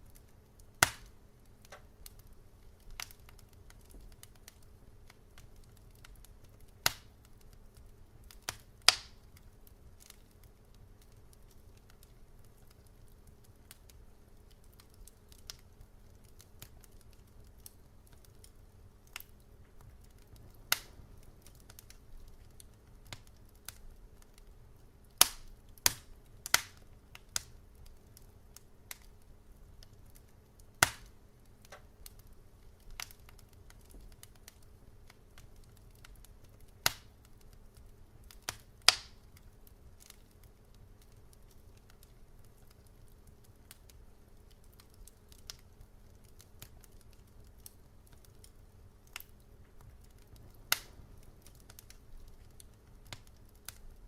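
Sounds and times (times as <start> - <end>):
faint low hum: 0.0 - 54.0
wood fire crackling: 0.0 - 54.0.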